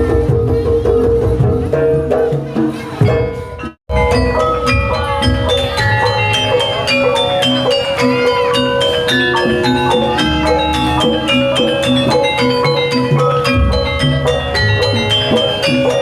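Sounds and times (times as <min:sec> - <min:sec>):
metal-keyed percussion music: 0:00.0 - 0:16.0.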